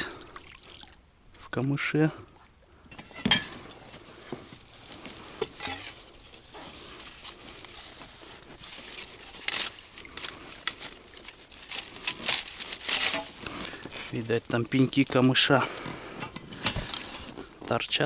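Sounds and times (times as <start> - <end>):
reed stems rustling and crackling: 2.8 - 18.0.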